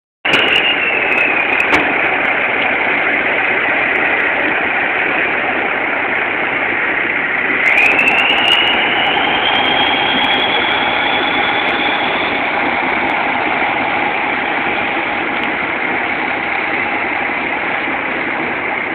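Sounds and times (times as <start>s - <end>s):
tractor diesel engine running: 0.2s - 18.9s.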